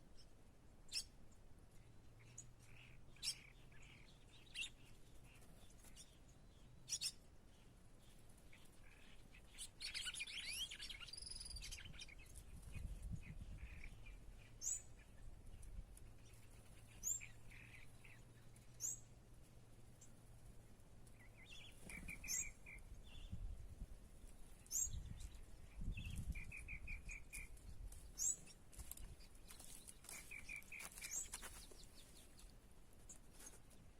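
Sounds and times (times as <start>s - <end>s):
small birds chirping and trilling: 0.1s - 19.2s, 19.8s - 33.9s.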